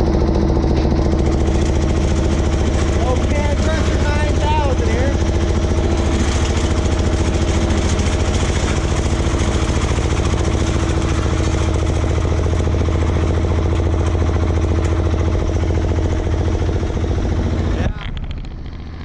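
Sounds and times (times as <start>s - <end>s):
diesel engine running steadily: 0.0s - 19.0s.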